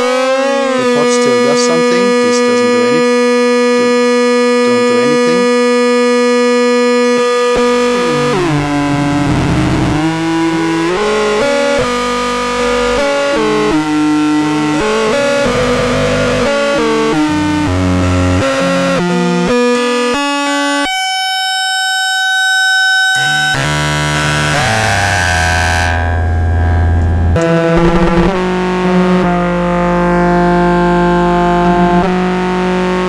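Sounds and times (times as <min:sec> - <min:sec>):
buzzy synth tones jumping in pitch: 0:00.0 - 0:20.4, 0:23.2 - 0:32.2
low synth drone: 0:00.0 - 0:20.5, 0:23.2 - 0:33.0.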